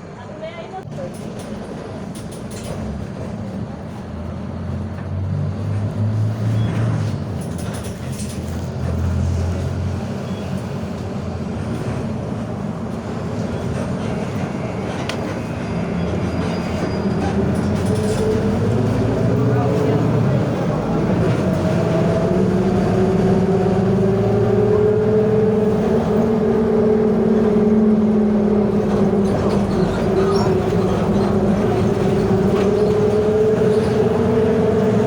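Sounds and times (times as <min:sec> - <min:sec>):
bus diesel engine droning: 0:00.0 - 0:35.0.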